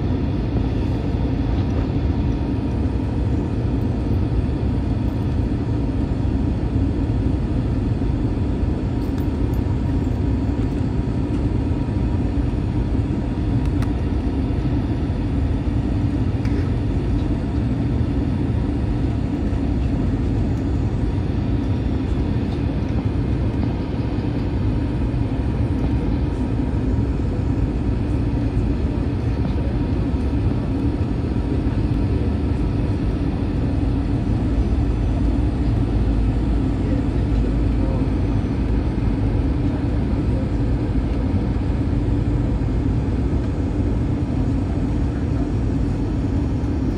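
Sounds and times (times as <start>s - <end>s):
airliner cabin drone: 0.0s - 46.9s.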